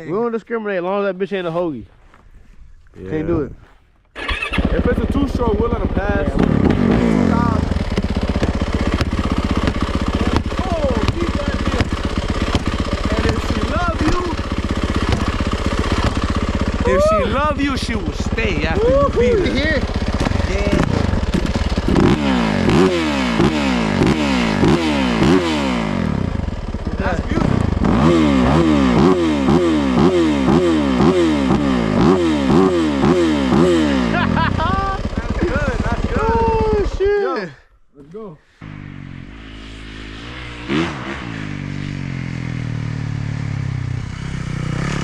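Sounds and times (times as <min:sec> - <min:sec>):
dirt bike engine revving: 0:04.1 - 0:37.3, 0:38.5 - 0:45.0.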